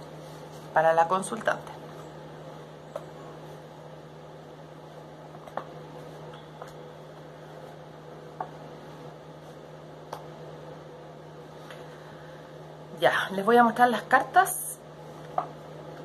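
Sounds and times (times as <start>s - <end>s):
space heater humming: 0.0s - 16.0s.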